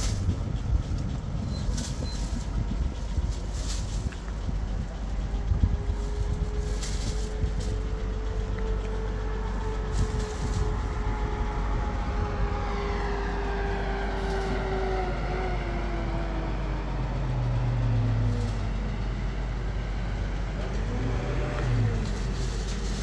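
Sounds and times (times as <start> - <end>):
deep hum: 0.0 - 23.0
vehicle engine rumble and whine: 0.0 - 23.0.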